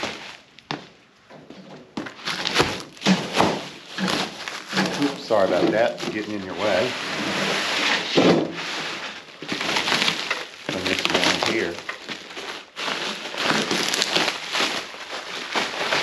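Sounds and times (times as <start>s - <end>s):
bubble wrap crinkling and rustling: 0.0s - 1.0s, 2.0s - 16.0s.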